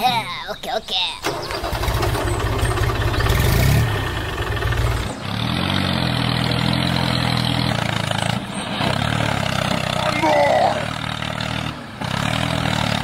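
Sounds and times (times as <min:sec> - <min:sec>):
tractor engine throbbing: 0:01.2 - 0:13.0.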